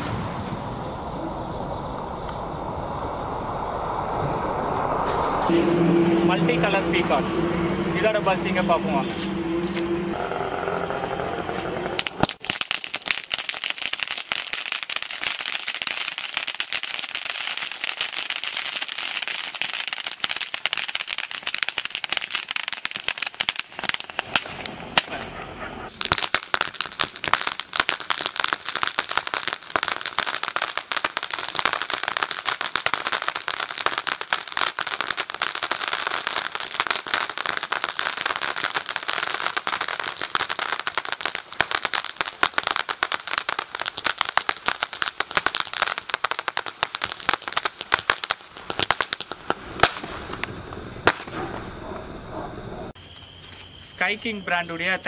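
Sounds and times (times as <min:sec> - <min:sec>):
fountain firework crackling: 0:00.0 - 0:51.6.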